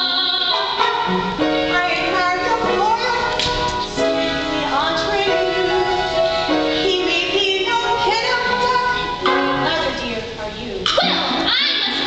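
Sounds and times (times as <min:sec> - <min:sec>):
musical accompaniment: 0:00.0 - 0:12.0.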